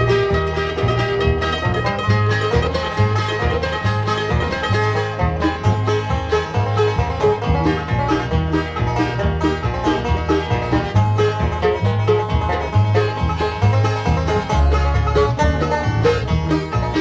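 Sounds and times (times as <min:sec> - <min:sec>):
banjo picking fast rolls: 0:00.0 - 0:17.0
bass line: 0:00.0 - 0:17.0
guitar: 0:00.0 - 0:17.0.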